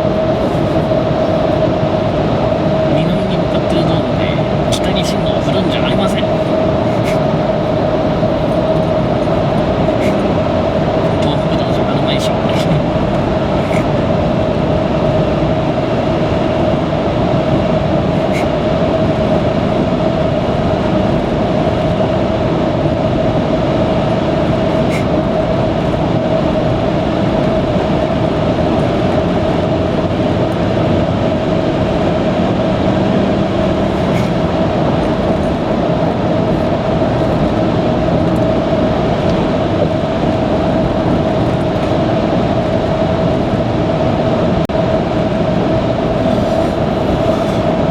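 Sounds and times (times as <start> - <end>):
car engine hum: 0.0 - 47.9
tyre and road roar: 0.0 - 47.9.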